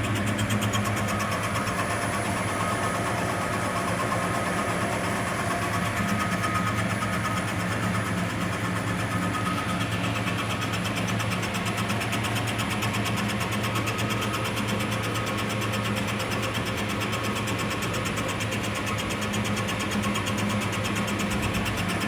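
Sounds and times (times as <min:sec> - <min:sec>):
fast rattle of lathe cutting: 0:00.0 - 0:22.0.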